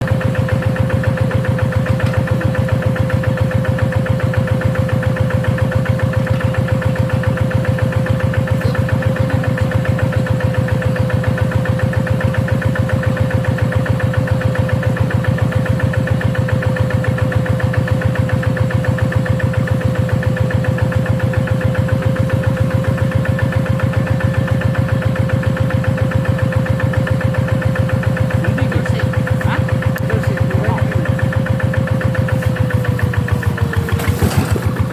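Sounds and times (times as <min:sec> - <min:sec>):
hand tractor engine chugging: 0:00.0 - 0:34.9.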